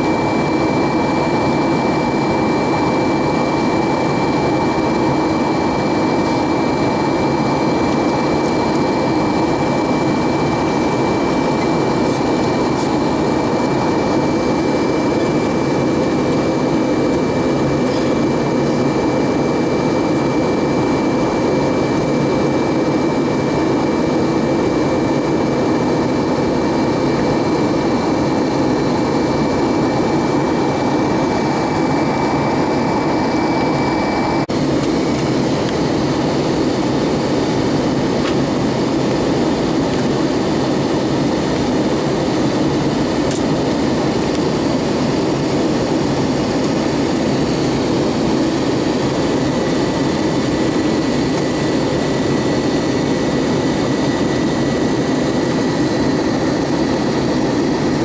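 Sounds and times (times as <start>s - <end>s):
jet engines droning: 0.0s - 58.0s
thin high whine: 0.0s - 58.0s.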